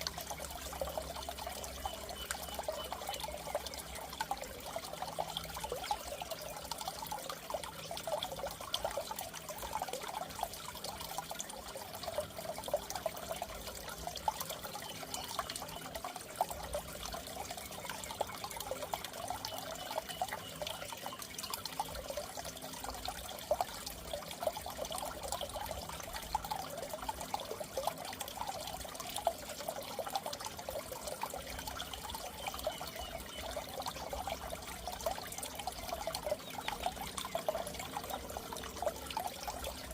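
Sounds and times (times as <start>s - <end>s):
water trickling in a tank: 0.0s - 39.9s.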